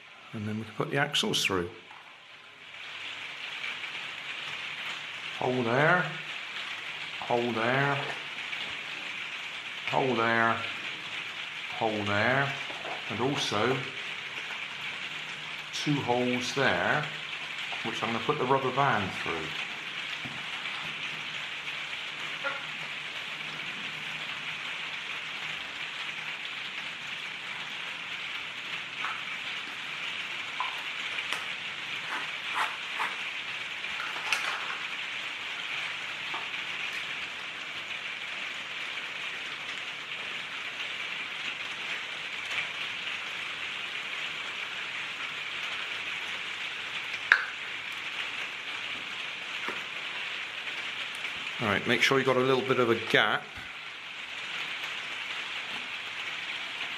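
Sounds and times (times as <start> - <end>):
heavy rain hiss: 0.0 - 56.9.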